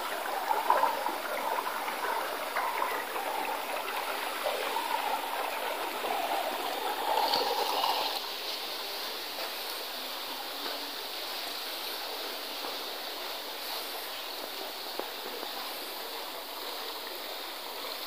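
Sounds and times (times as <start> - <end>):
steady water-like rushing: 0.0 - 18.0.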